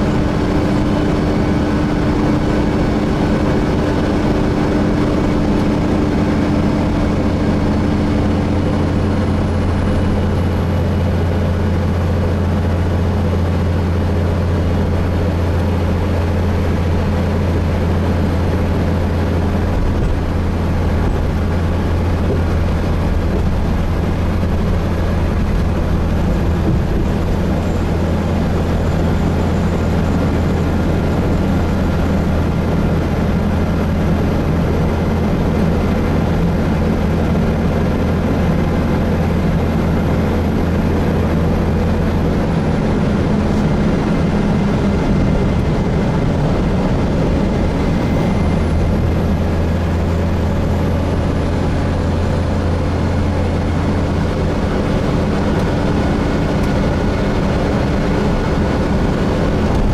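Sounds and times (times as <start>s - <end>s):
bus engine drone: 0.0s - 59.9s
road and drivetrain noise: 0.0s - 59.9s.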